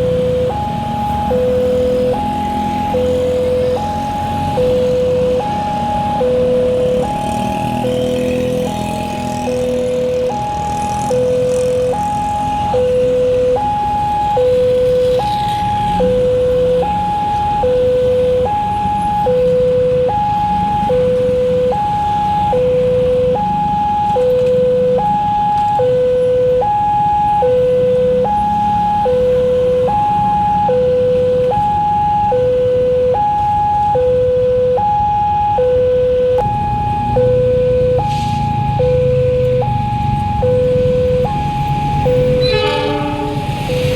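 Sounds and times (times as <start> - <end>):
two-tone warning siren: 0.0 - 43.9.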